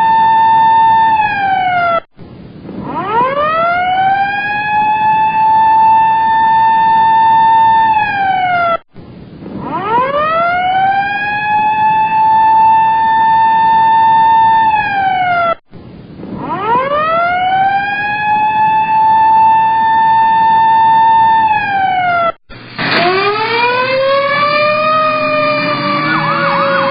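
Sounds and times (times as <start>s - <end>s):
siren winding up and down: 0.0s - 2.1s, 2.8s - 8.8s, 9.6s - 15.6s, 16.3s - 26.9s.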